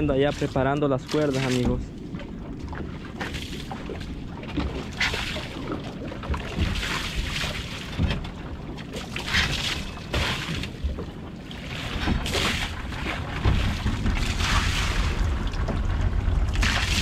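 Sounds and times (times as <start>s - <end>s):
water slapping against boat hull: 0.0s - 17.0s
wind buffeting microphone: 0.0s - 17.0s.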